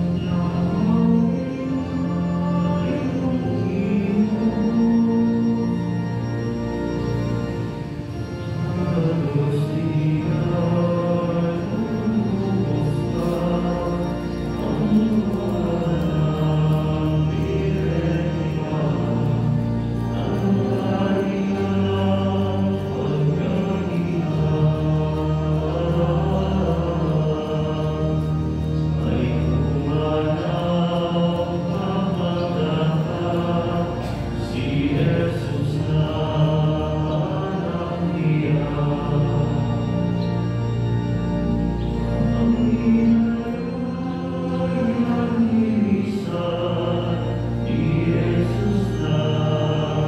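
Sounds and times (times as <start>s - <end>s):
choir singing a hymn: 0.0s - 50.0s
organ chords: 0.0s - 50.0s.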